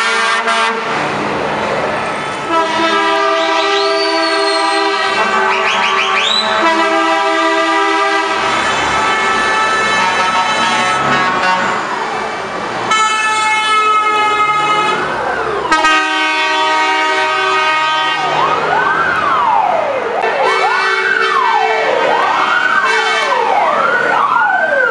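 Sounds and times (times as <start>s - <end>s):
truck air horns: 0.0s - 1.2s, 1.9s - 18.5s, 20.2s - 23.6s
siren wailing: 1.9s - 10.7s, 11.6s - 24.9s.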